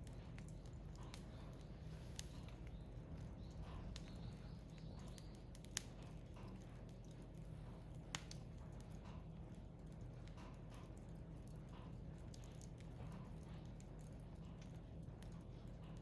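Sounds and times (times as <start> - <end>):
firewood crackling and popping: 0.0 - 16.0
steady low hum: 0.0 - 16.0.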